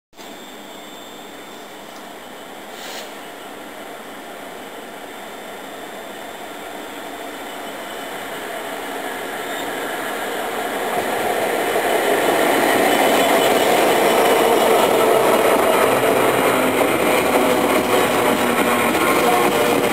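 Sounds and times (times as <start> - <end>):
rail noise: 0.2 - 19.9
diesel locomotive passing: 0.4 - 19.9.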